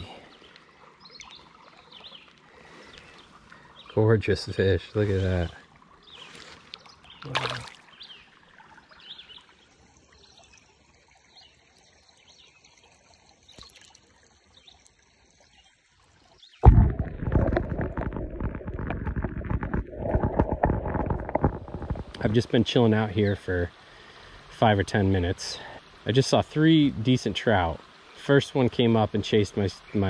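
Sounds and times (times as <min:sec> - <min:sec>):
creek water trickling: 0:00.0 - 0:30.0.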